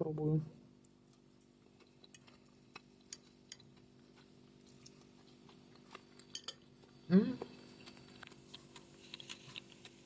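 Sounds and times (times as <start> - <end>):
low steady hum: 0.0 - 10.0
faint chewing: 0.8 - 10.0.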